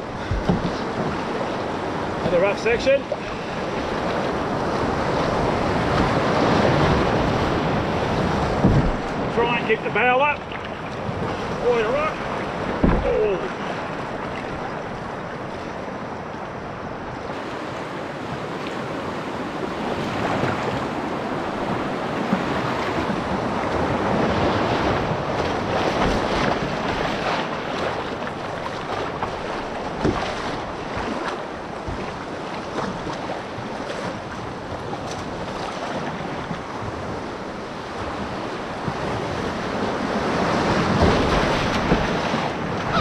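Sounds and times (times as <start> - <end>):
rushing whitewater: 0.0 - 43.0.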